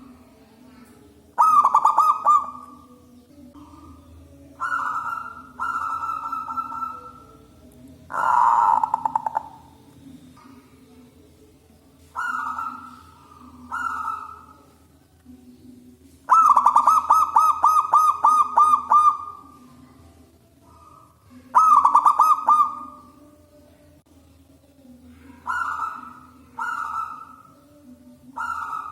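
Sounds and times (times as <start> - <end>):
dove cooing: 0.0 - 10.6, 12.0 - 14.8, 16.3 - 20.0, 20.6 - 23.3, 25.1 - 28.9
faint low hum: 0.0 - 28.9.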